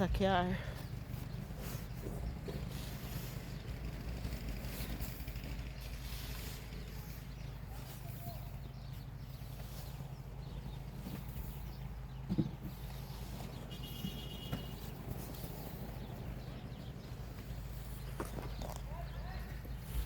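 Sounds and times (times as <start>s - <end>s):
snow brushed off a car: 1.1s - 11.9s, 12.6s - 18.2s.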